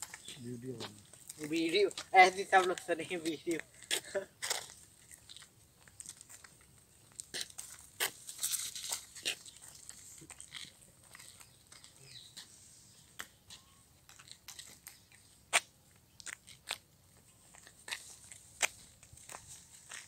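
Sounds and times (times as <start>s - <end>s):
crunches and crackles: 0.0s - 20.0s.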